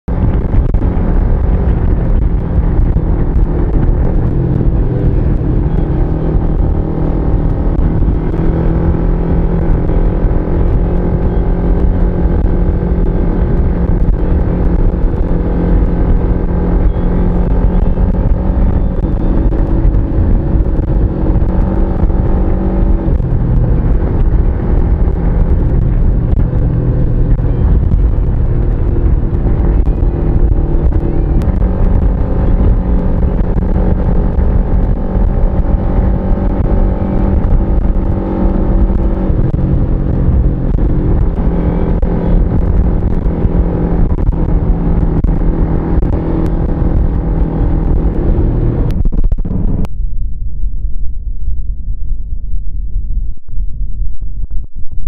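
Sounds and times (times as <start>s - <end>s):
motorcycle engine running: 0.0s - 50.0s
wind and road rumble: 0.0s - 55.0s.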